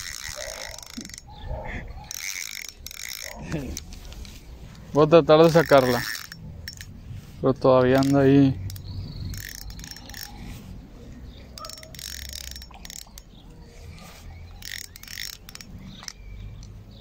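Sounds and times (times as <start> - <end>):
fishing reel clicking: 0.0 - 1.3, 2.0 - 7.0, 7.8 - 16.8.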